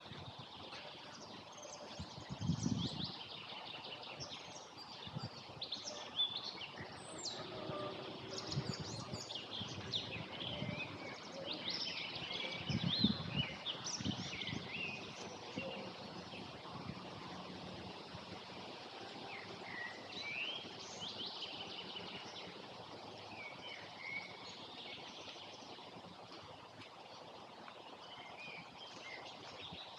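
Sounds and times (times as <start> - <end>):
outdoor background hiss: 0.0 - 29.9
wild birds singing and chirping: 0.0 - 29.9.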